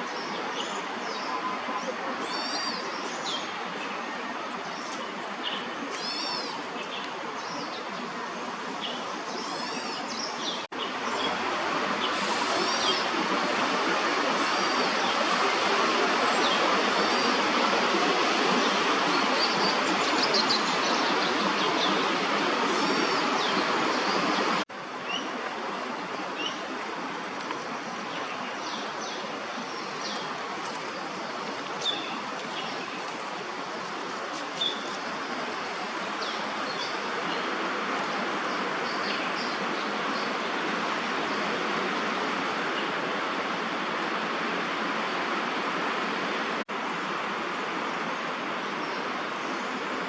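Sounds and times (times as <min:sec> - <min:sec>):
strong wind through trees: 0:00.0 - 0:50.0.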